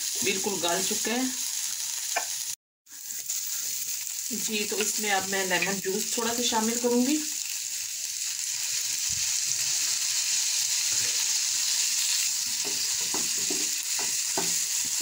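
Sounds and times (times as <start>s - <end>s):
chicken sizzling in a frying pan: 0.0s - 15.0s.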